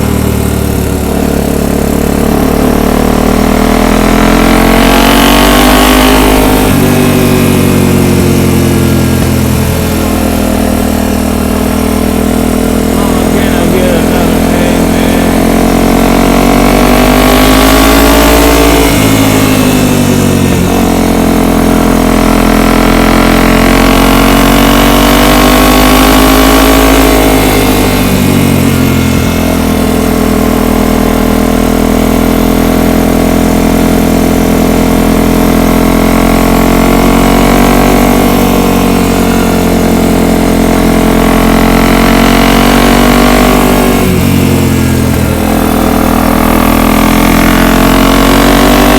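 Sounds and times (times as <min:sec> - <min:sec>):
atv engine running: 0:00.0 - 0:48.9.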